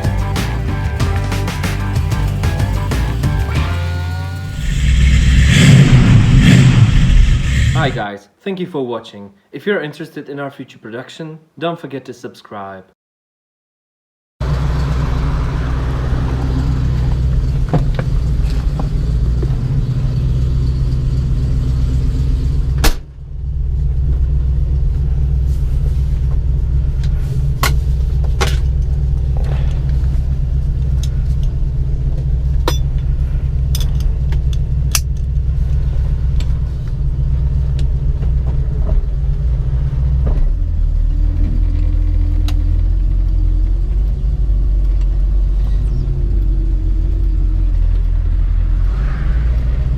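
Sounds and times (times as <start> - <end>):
car engine rumbling: 0.0 - 8.1, 14.4 - 49.9.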